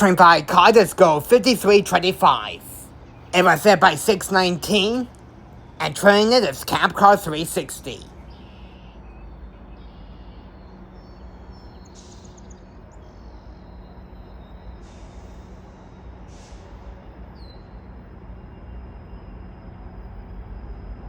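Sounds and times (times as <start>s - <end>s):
birds chirping: 0.0s - 19.4s
train rumbling and humming: 0.0s - 21.0s.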